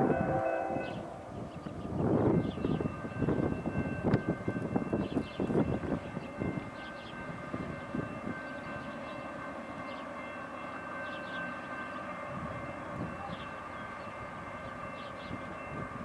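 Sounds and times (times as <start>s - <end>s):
distant train rumble: 0.0s - 16.0s.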